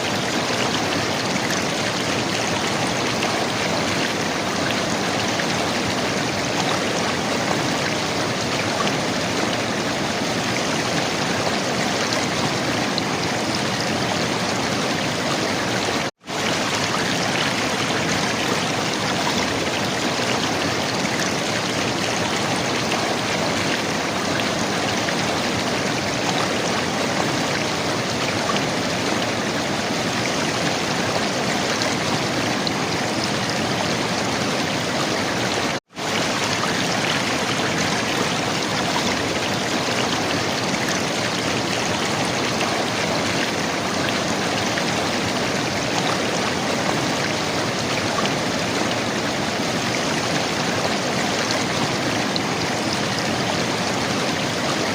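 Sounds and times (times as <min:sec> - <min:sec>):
river water gurgling and rushing: 0:00.0 - 0:54.9.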